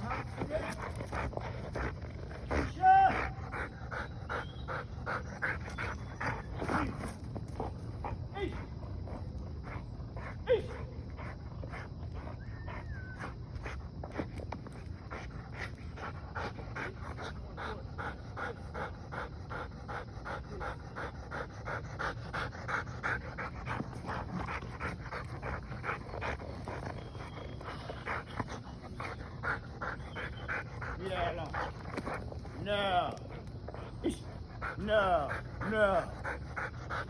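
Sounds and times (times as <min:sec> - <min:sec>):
dog panting: 0:00.0 - 0:37.0.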